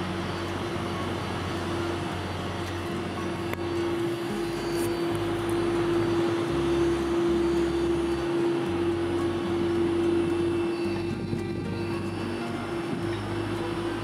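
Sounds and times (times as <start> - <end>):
jet engines idling while taxiing: 0.0 - 14.0.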